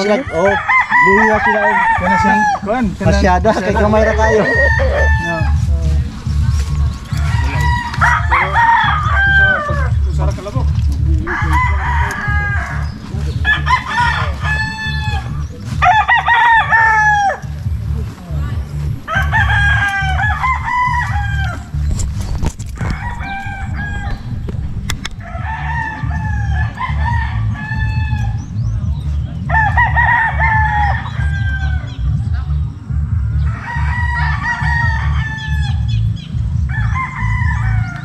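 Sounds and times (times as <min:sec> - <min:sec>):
constant low rumble: 0:00.0 - 0:38.0
roosters crowing: 0:00.0 - 0:38.0.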